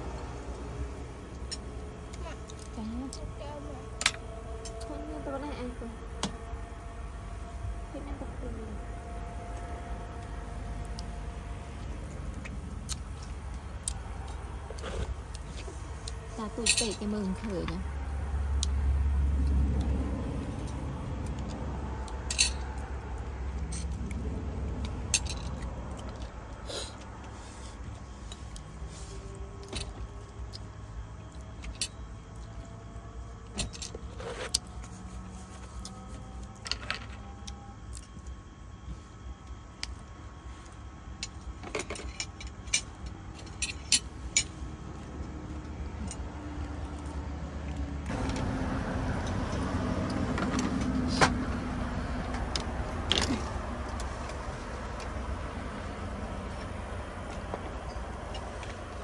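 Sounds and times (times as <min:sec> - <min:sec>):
low steady rumble: 0:00.0 - 0:59.0.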